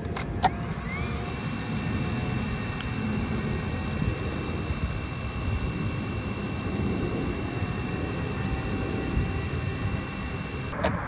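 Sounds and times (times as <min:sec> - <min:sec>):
drone propeller whine: 0:00.0 - 0:11.0.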